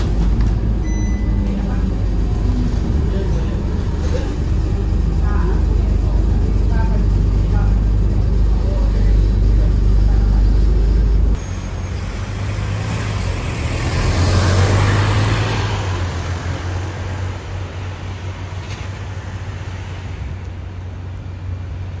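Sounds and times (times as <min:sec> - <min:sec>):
bus diesel engine: 0:00.0 - 0:22.0.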